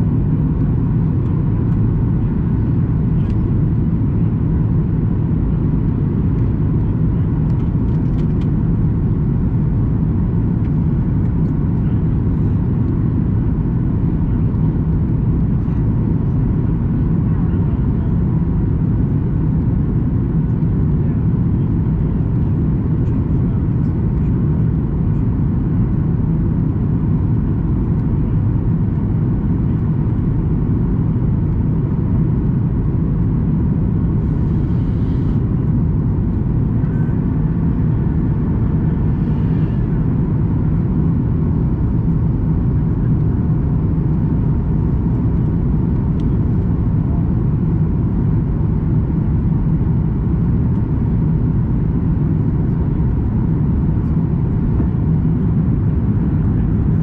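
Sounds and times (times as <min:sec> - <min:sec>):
airplane cabin engine rumble: 0:00.0 - 0:57.0
faint steady hum: 0:00.0 - 0:57.0.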